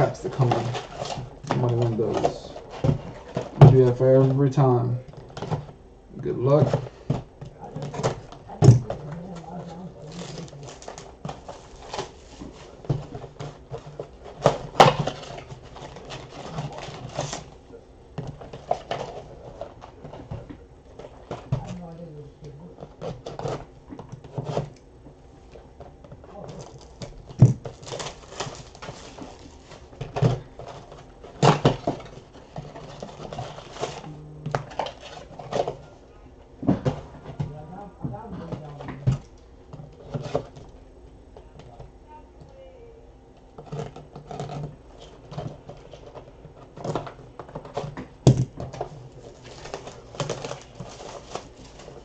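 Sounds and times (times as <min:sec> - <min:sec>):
cardboard boxes crinkling and scraping: 0:00.0 - 0:17.6, 0:18.3 - 0:21.9, 0:25.6 - 0:36.1, 0:38.4 - 0:40.6, 0:43.6 - 0:52.0.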